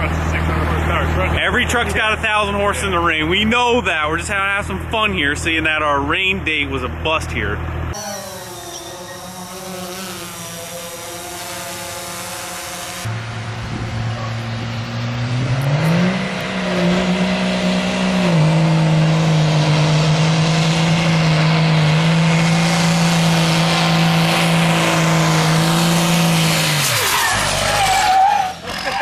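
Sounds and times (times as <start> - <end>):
diesel truck engine revving: 0.0 - 29.0.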